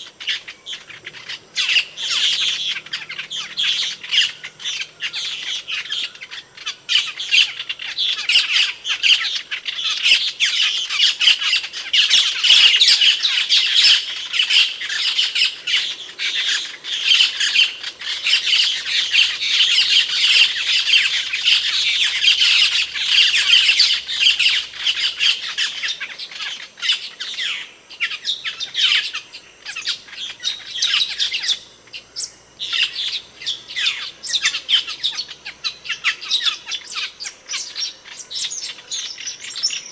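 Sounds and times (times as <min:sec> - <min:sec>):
starlings squawking and chirping: 0:00.0 - 0:39.9.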